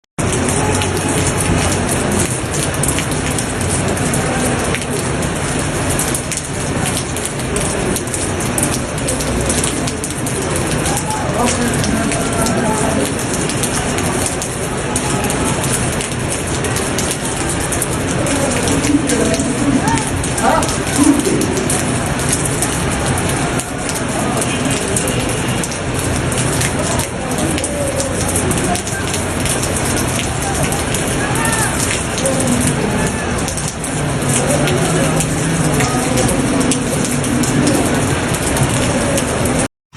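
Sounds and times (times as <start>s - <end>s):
floodwater rushing: 0.2s - 39.7s.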